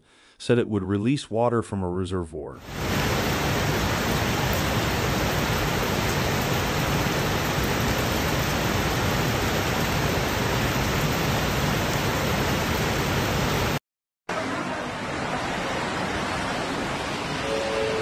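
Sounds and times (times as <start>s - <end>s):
heavy rain pouring: 2.6s - 18.0s
running floodwater: 2.6s - 18.0s.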